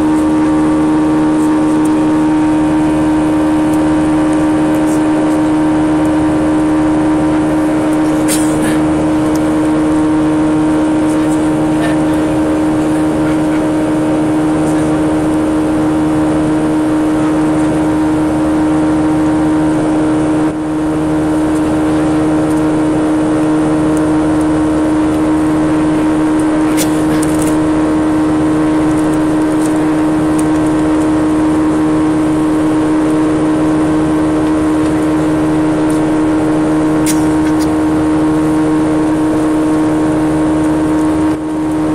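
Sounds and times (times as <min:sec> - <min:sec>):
jet engine drone: 0:00.0 - 0:41.9.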